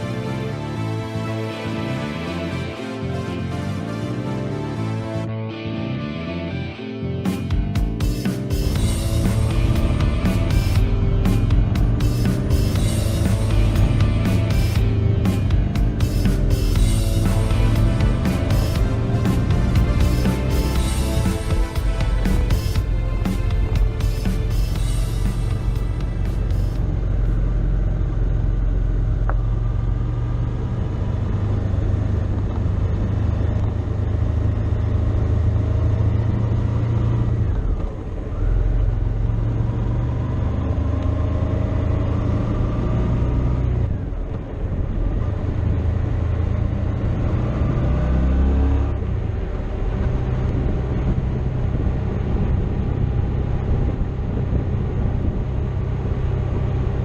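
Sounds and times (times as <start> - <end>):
road and wind noise: 0.0 - 57.0
motorcycle engine running: 7.2 - 57.0.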